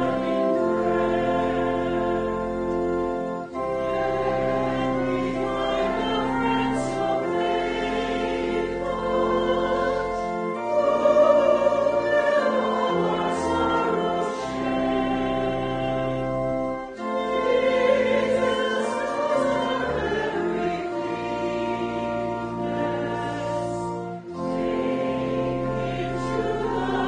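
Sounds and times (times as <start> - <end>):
congregation singing a hymn: 0.0 - 27.0
sustained accompanying chords: 0.0 - 27.0.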